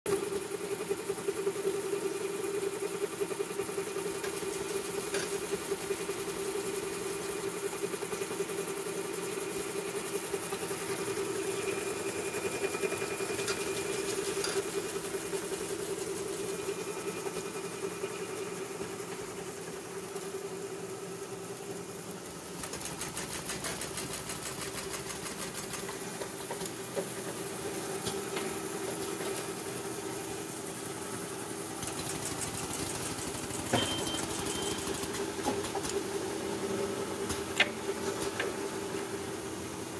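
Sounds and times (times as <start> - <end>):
packing machine humming and ticking: 0.1 - 39.9.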